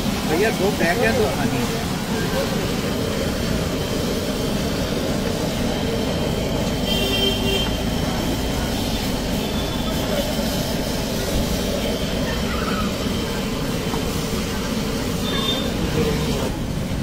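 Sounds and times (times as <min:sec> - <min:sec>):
vegetables sizzling on a griddle: 0:00.0 - 0:17.0.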